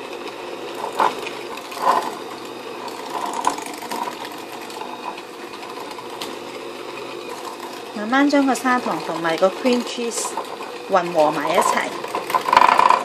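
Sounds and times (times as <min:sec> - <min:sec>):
electric hand mixer running: 0:00.0 - 0:13.0.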